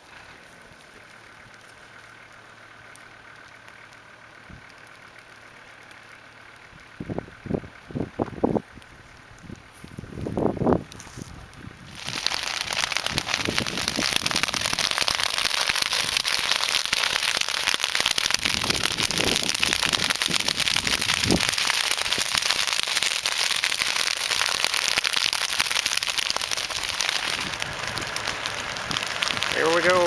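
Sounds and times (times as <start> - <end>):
grass fire crackling and popping: 0.0 - 30.0.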